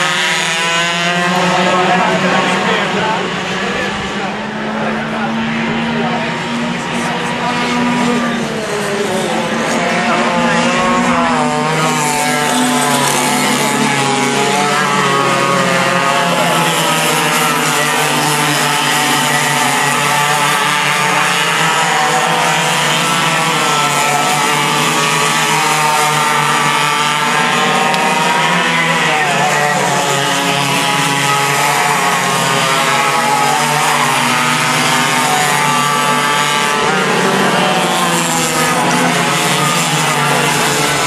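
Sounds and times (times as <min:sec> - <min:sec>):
racing kart engines revving: 0:00.0 - 0:41.0.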